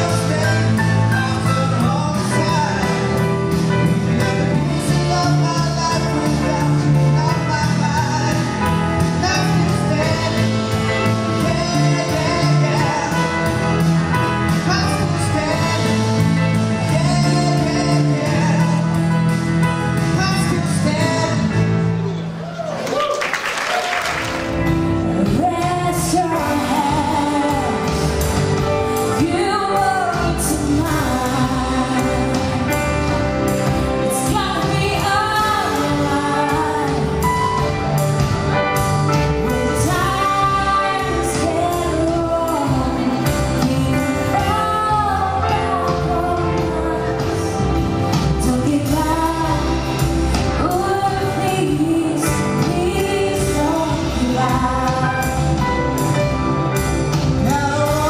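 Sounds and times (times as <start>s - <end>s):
man and woman singing duet: 0.0s - 19.4s, 25.0s - 38.4s, 39.3s - 56.4s, 57.0s - 58.0s.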